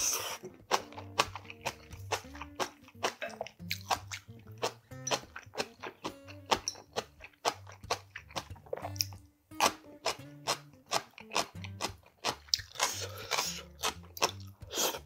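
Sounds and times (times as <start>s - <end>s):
person chewing food: 0.0s - 15.0s
background music with bass: 0.1s - 15.0s.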